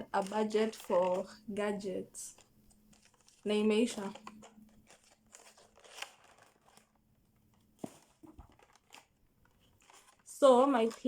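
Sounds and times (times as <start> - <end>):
soft crinkling: 0.0 - 11.0.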